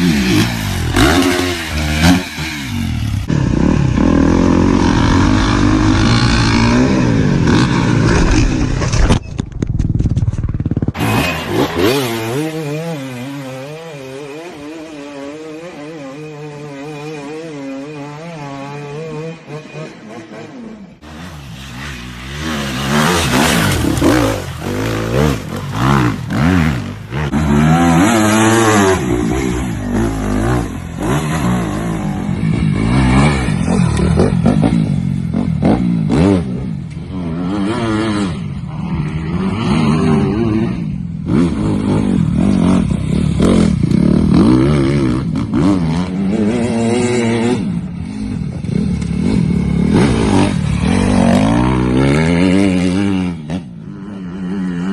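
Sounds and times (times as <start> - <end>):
dirt bike engines revving: 0.0 - 9.2, 10.5 - 54.9.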